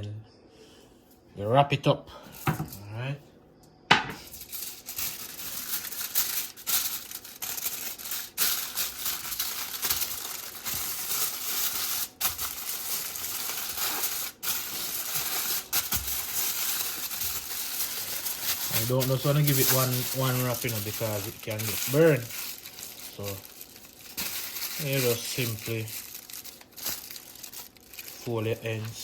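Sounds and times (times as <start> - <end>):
aluminium foil crinkling: 4.2 - 29.0.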